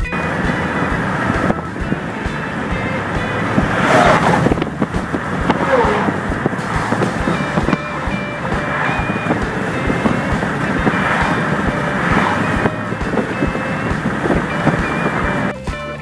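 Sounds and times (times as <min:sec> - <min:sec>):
wind rushing past car window: 0:00.0 - 0:15.6
background music: 0:00.0 - 0:16.0
car road noise: 0:00.0 - 0:16.0.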